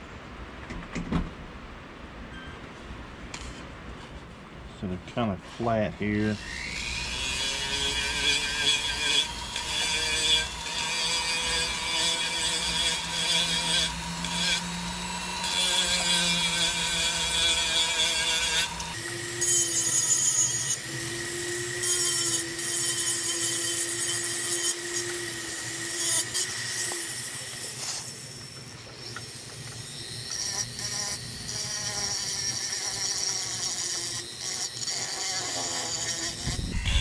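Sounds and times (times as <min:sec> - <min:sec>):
rotary tool whining: 0:06.2 - 0:37.0
bit rasping on wood: 0:06.8 - 0:36.8.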